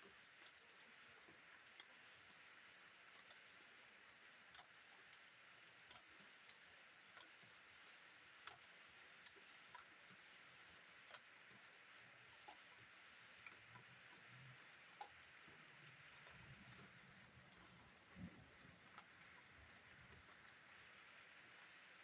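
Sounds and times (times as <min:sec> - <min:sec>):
raindrops ticking: 0:00.0 - 0:22.0.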